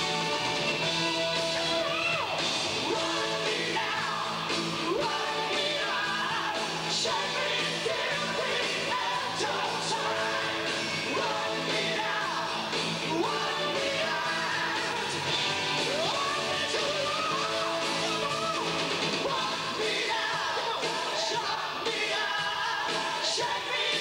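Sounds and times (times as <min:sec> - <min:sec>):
live hard rock band playing: 0:00.0 - 0:24.0.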